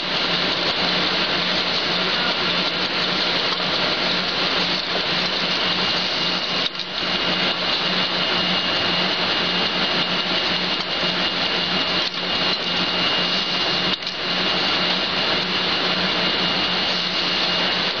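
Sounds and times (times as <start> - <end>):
machinery high whine: 0.0 - 18.0
machinery low hum: 0.0 - 18.0.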